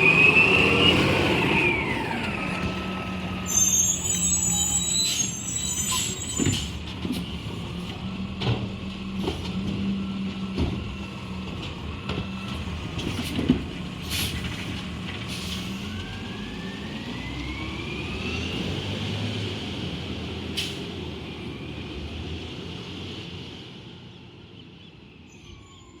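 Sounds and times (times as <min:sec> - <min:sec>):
garbage truck engine droning: 0:00.0 - 0:23.8.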